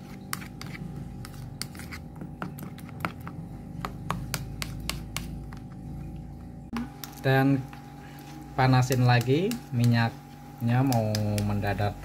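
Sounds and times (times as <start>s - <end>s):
spoon stirring egg mixture: 0.0s - 12.0s.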